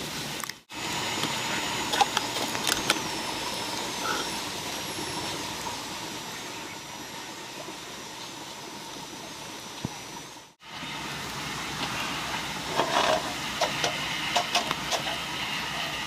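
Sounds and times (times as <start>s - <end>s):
fire crackling and hissing: 0.0s - 16.0s.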